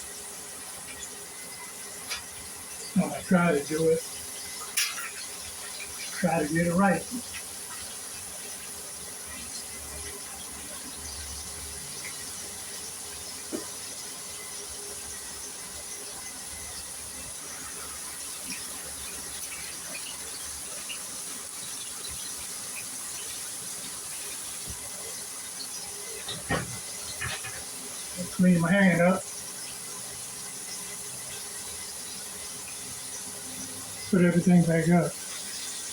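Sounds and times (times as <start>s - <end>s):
chicken sizzling in hot oil: 0.0s - 35.9s
oil popping and crackling: 0.6s - 14.6s, 15.5s - 35.9s.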